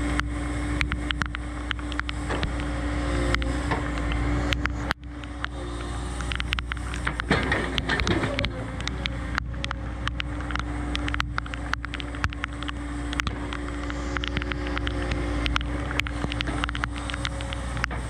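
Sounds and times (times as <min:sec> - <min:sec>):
excavator diesel engine running: 0:00.0 - 0:18.0
sharp clicks and knocks: 0:00.0 - 0:18.0.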